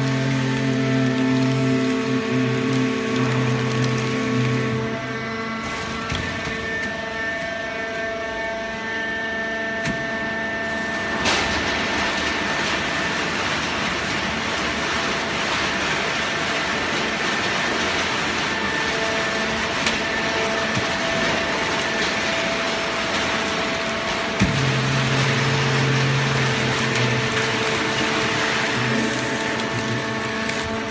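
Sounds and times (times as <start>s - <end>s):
baler machine hum: 0.0s - 30.9s.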